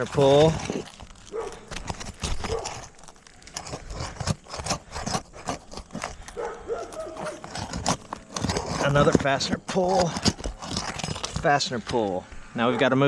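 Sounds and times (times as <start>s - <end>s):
hand tools scraping on roof shingles: 0.0s - 12.4s.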